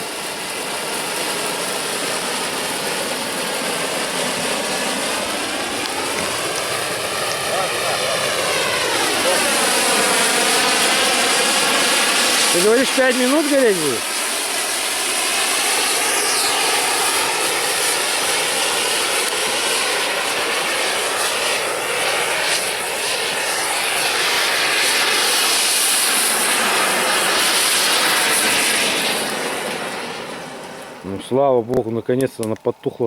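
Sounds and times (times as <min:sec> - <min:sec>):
flare burning with hiss: 0:00.0 - 0:31.4.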